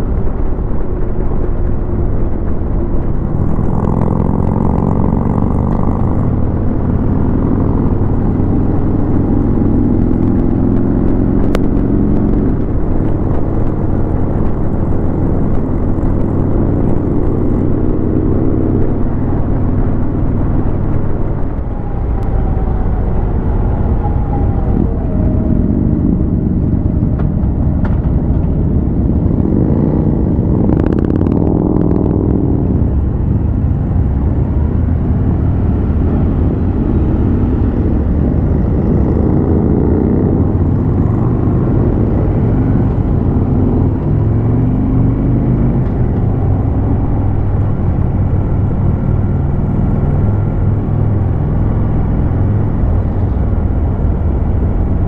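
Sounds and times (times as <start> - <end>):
low wind rumble: 0.0 - 55.0
motorcycle engine running: 0.0 - 55.0.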